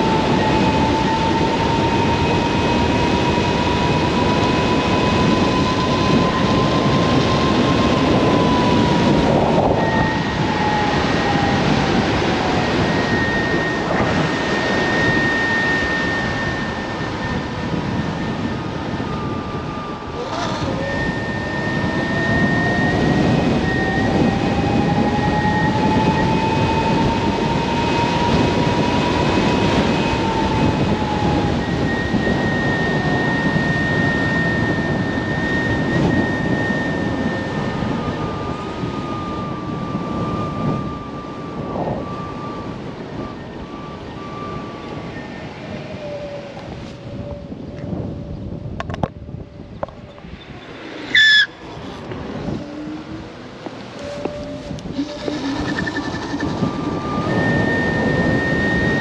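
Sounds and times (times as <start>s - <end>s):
electric motor whining: 0.0s - 48.1s, 48.7s - 59.0s
steady higher whine: 0.0s - 59.0s
wind and tyre noise: 0.0s - 59.0s.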